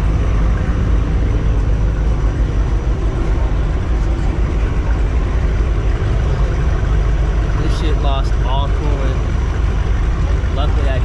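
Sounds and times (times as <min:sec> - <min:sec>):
car engine idling rumble: 0:00.0 - 0:11.0.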